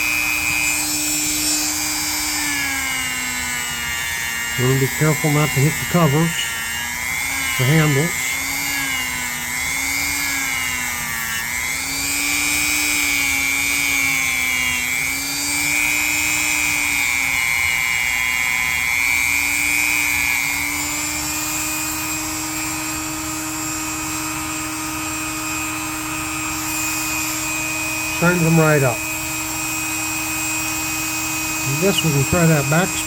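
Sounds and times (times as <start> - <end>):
power tool polishing metal: 0.0 - 33.0.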